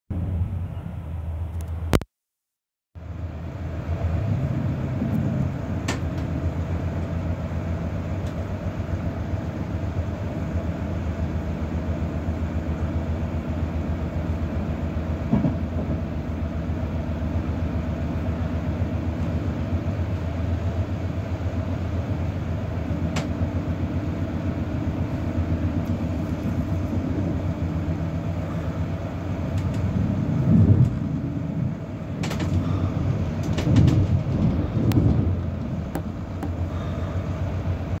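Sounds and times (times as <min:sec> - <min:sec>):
train wheels rumbling on rail: 0:03.1 - 0:38.0
loud train clattering: 0:03.6 - 0:38.0.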